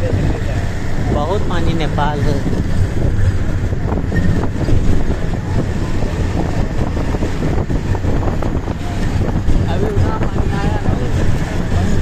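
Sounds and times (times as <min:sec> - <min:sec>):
vehicle rumble: 0:00.0 - 0:12.0
wind across microphone: 0:00.0 - 0:12.0.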